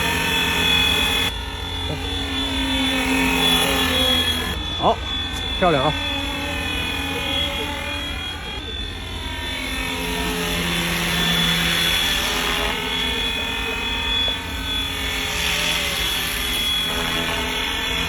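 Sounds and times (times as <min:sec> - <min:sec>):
model helicopter whirring whine: 0:00.0 - 0:18.0.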